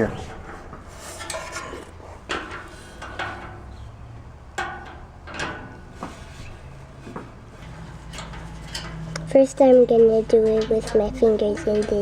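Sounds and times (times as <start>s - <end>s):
metal grill parts clinking: 0.0s - 6.8s, 7.4s - 12.0s
low steady hum: 0.0s - 12.0s.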